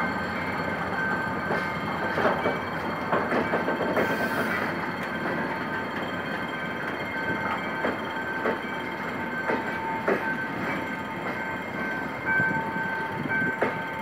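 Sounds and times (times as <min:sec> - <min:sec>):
high-pitched ringing tone: 0:00.0 - 0:14.0
train rumble: 0:00.0 - 0:14.0
train wheels clacking over joints: 0:00.6 - 0:14.0.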